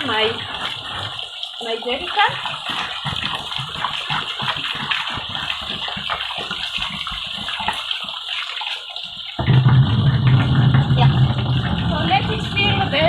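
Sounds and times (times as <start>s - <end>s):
gurgling: 0.0s - 13.0s
running water rushing: 0.0s - 13.0s
water sloshing in plastic jerrycan: 0.0s - 13.0s.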